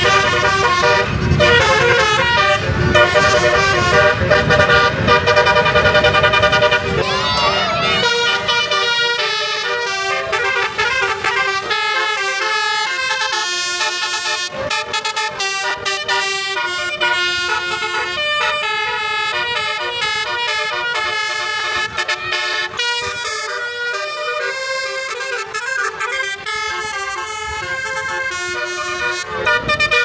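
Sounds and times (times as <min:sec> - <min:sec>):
musical air horns playing a tune: 0:00.0 - 0:30.0.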